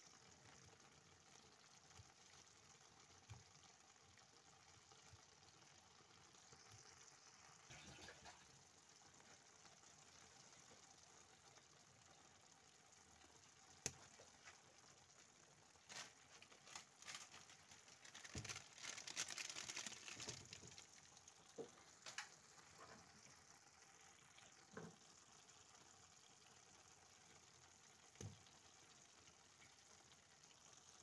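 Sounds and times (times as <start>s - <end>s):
stew bubbling and sizzling: 0.0s - 31.0s.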